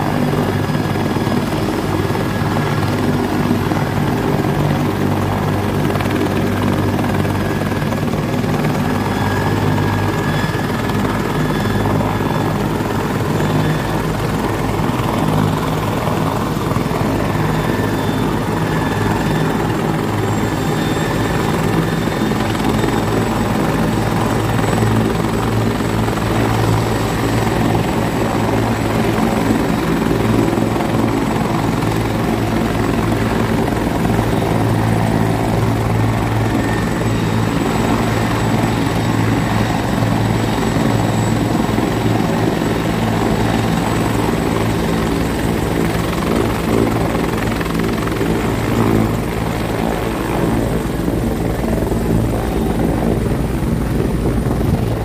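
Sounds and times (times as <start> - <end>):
helicopter rotor beat: 0.0 - 55.0.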